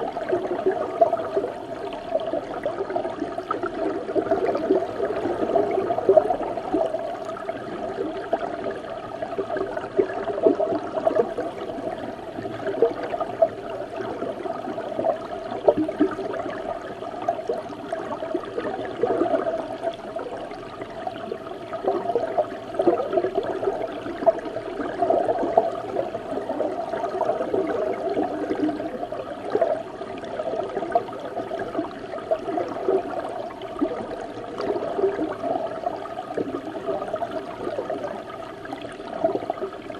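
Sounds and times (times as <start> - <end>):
muffled underwater river gurgling: 0.0 - 39.9.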